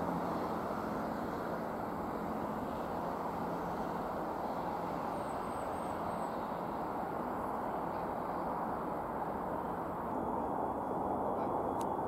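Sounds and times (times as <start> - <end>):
distant diesel train rumble: 0.0 - 12.0.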